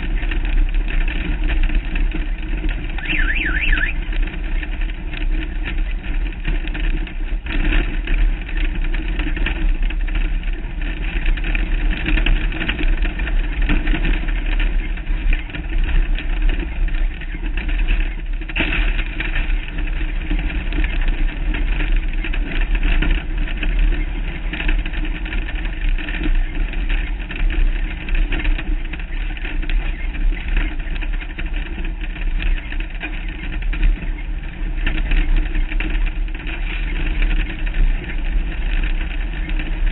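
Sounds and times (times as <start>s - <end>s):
truck engine running: 0.0s - 39.9s
wind and vibration rumble: 0.0s - 39.9s.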